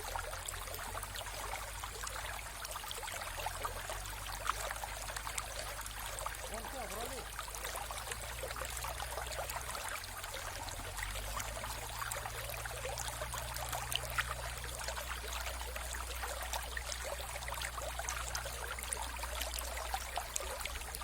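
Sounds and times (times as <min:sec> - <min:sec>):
low steady rumble: 0:00.0 - 0:21.0
water splashes and trickles: 0:00.0 - 0:21.0.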